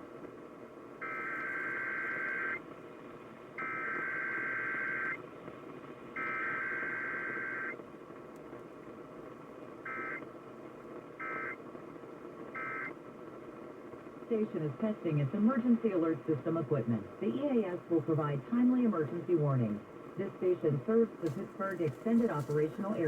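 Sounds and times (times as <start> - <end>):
faint broadcast hum: 0.0 - 23.0.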